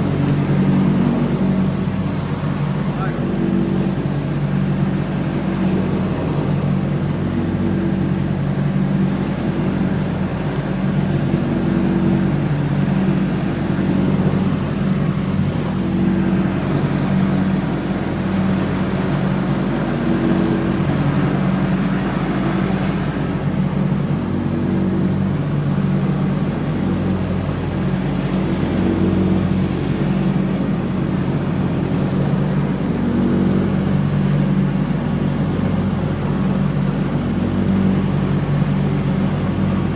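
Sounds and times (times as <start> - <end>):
lawn tractor engine mowing: 0.0 - 39.9.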